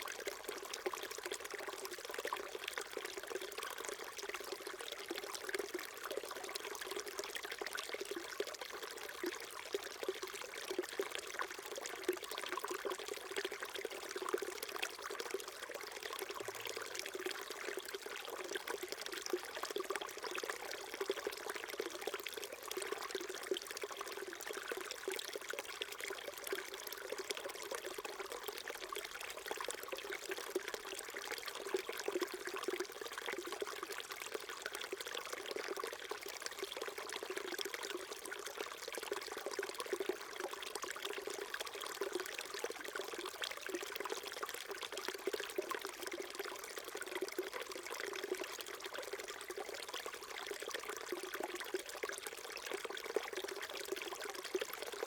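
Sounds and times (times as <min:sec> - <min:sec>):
stream trickling over rocks: 0:00.0 - 0:55.0.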